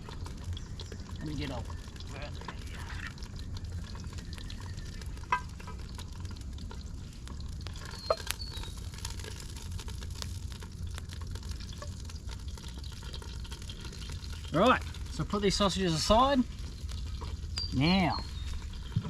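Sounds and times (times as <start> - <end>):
sausages sizzling in a pot: 0.0 - 19.0.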